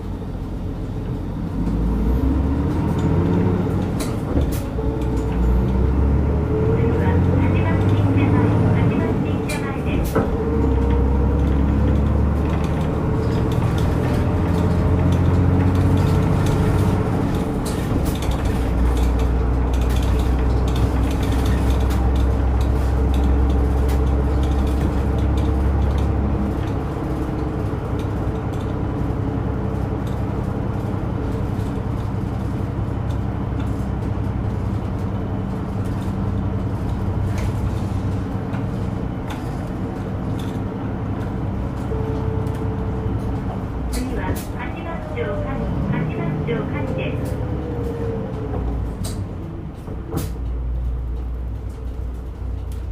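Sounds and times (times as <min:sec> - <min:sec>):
bus engine droning: 0:00.0 - 0:52.9.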